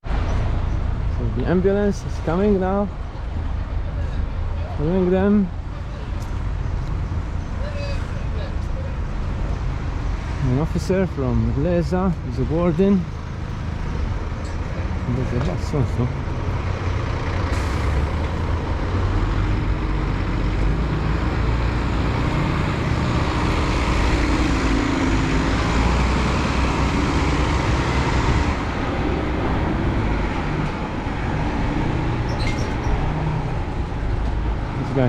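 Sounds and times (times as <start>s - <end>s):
bus engine rumble: 0.0s - 35.0s
road traffic: 0.0s - 35.0s.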